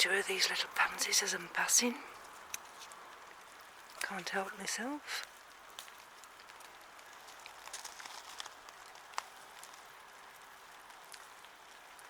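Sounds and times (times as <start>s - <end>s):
light rain falling: 0.0s - 12.0s
raindrops ticking: 0.0s - 12.0s.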